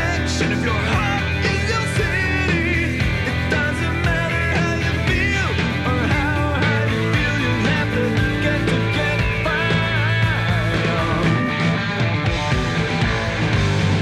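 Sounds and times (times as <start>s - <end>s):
man singing: 0.0s - 11.7s
bass guitar: 0.0s - 14.0s
drums: 0.0s - 14.0s
electric guitar: 0.0s - 14.0s.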